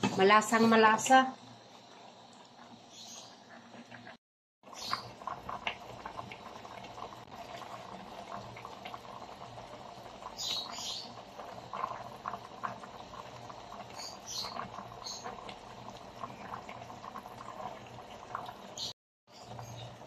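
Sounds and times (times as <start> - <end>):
broth bubbling in a pan: 0.0 - 20.0.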